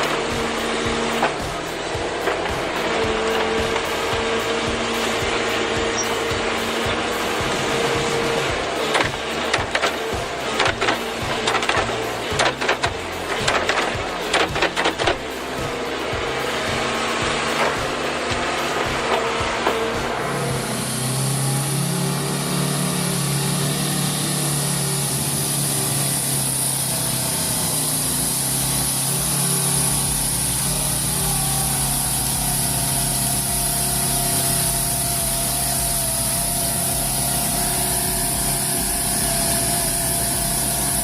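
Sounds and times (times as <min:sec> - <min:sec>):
higher whine: 0:00.0 - 0:41.0
machine engine running: 0:00.0 - 0:41.0.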